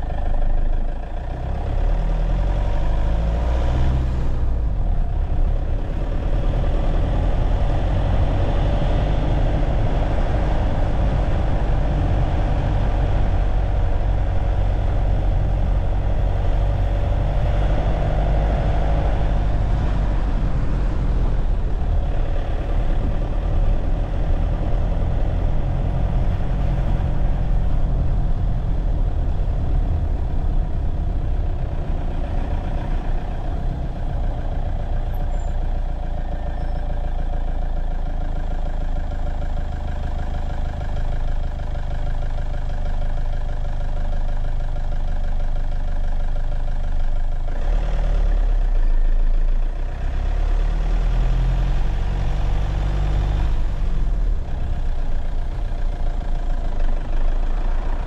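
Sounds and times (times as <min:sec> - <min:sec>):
vehicle low rumble: 0:00.0 - 0:58.0.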